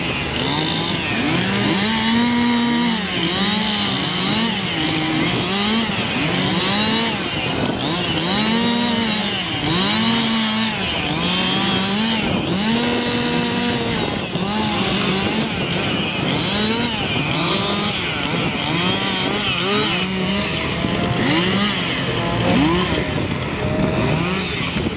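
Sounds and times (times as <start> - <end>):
chainsaws cutting logs: 0.0 - 24.9.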